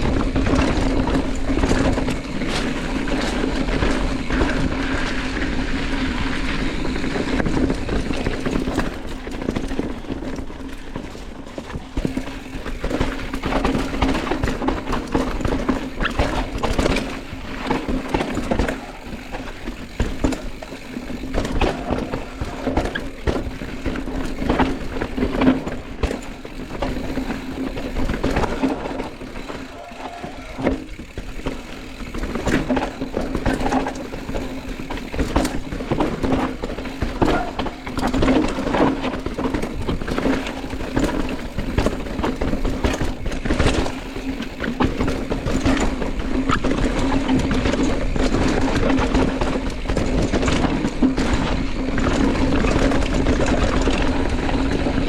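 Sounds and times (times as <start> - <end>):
knocks and rattles over bumps: 0.0 - 55.0.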